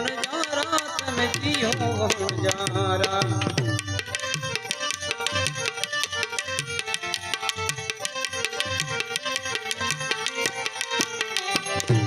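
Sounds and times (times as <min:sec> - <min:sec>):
hand drums beating: 0:00.0 - 0:12.0
harmonium holding notes: 0:00.0 - 0:12.0.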